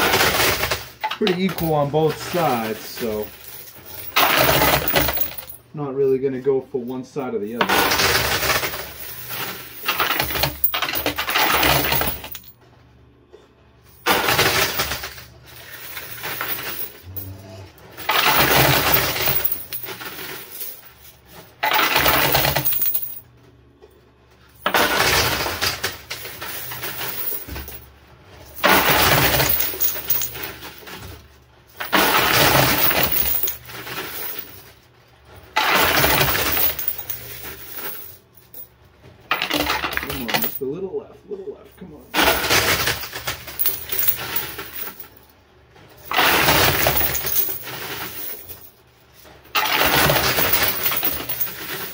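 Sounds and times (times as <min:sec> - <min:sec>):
coins clattering: 0:00.0 - 0:05.6, 0:07.5 - 0:12.5, 0:14.0 - 0:17.3, 0:17.9 - 0:23.2, 0:24.6 - 0:34.8, 0:35.6 - 0:38.7, 0:39.3 - 0:40.6, 0:42.0 - 0:45.3, 0:46.0 - 0:51.9.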